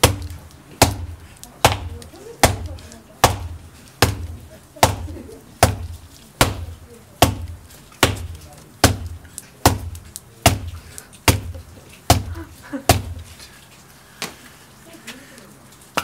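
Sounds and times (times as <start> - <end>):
shoe knocking against concrete: 0.0 - 13.3.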